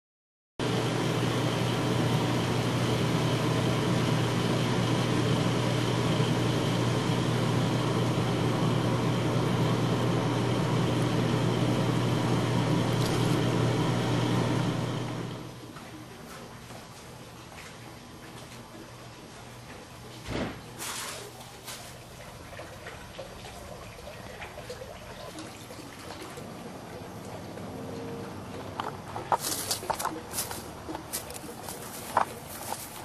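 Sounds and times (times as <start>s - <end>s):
household machine humming: 0.6s - 20.2s, 21.2s - 33.0s.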